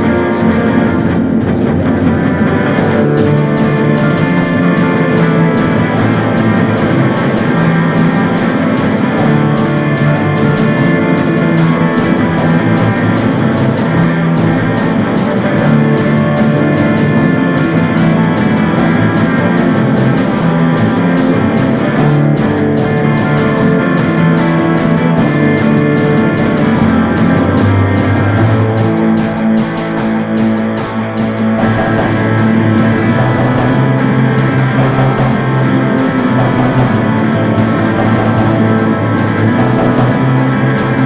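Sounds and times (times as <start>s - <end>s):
instrumental rock music: 0.0s - 41.0s.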